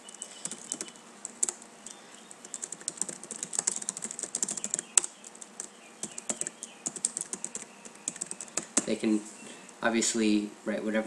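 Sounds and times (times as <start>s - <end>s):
typing on computer keyboard: 0.0s - 9.0s.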